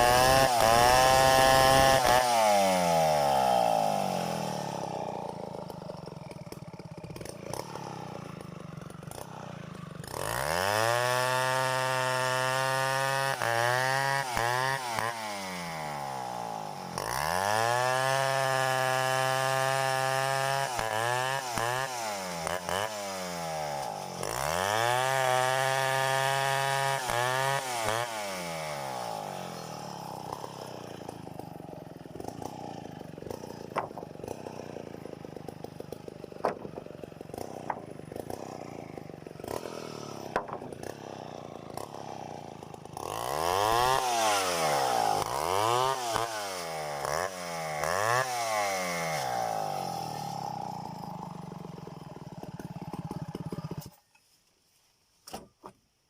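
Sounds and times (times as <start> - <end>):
chainsaw revving and running: 0.0 - 54.1.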